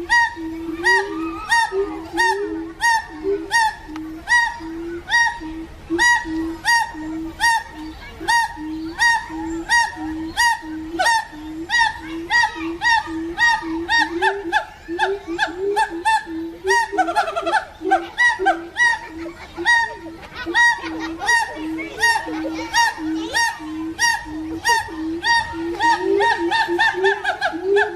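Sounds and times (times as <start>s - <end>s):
monkeys calling: 0.0s - 27.9s.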